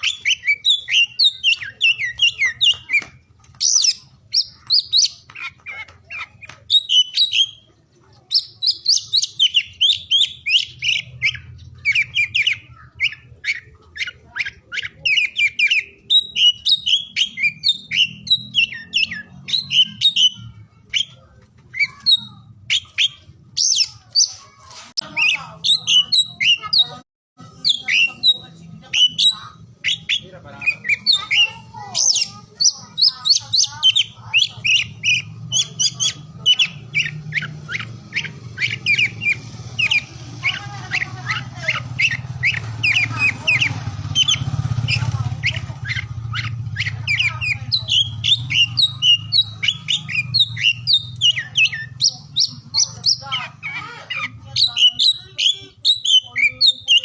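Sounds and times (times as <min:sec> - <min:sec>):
bird whistled song with trills: 0:00.0 - 0:07.7, 0:08.3 - 0:57.0.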